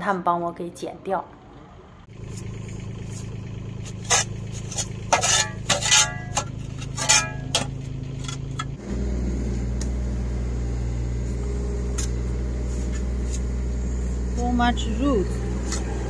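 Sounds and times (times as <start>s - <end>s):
mini excavator engine running: 1.2s - 16.0s.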